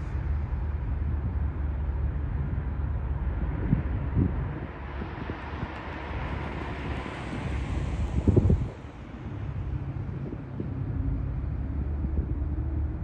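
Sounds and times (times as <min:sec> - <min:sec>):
steady low rumble: 0:00.0 - 0:13.0
wind buffeting microphone: 0:00.0 - 0:13.0.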